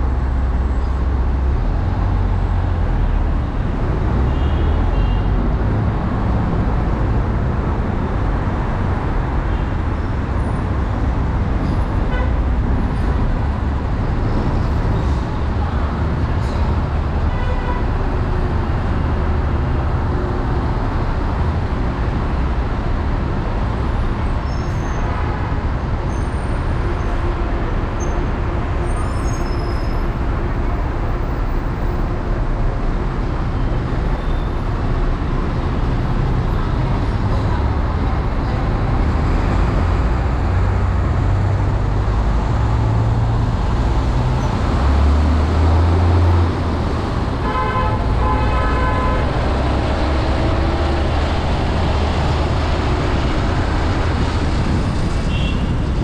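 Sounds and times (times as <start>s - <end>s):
city traffic rumble: 0.0s - 56.0s.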